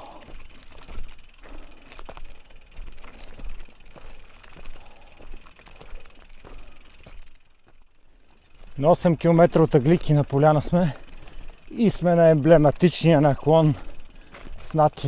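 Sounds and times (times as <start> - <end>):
bike knocking and rattling: 0.0 - 15.0
bike tyres rolling on dirt: 0.0 - 15.0.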